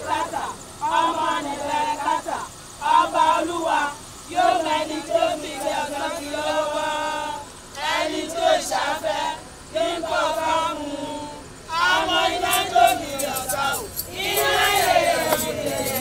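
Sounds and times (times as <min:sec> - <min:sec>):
women chanting together: 0:00.0 - 0:16.0.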